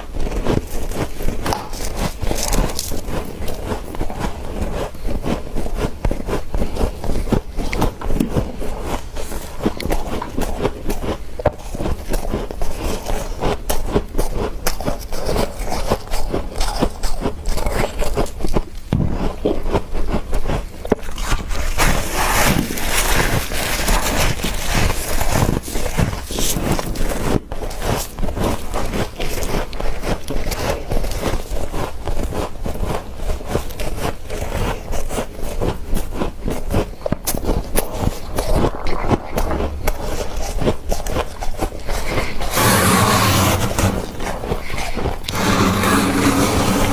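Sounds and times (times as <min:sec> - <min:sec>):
teeth crunching frost: 0:00.0 - 0:46.9.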